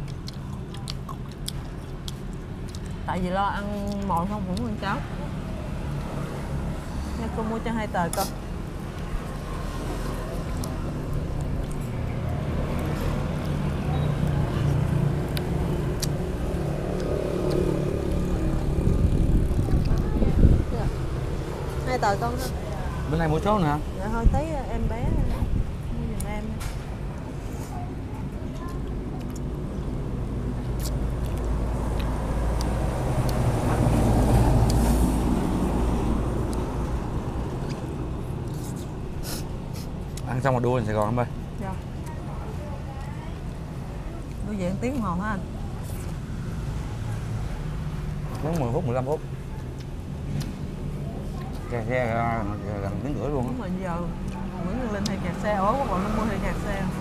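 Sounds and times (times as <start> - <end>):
vehicle passing on road: 0.0 - 57.0.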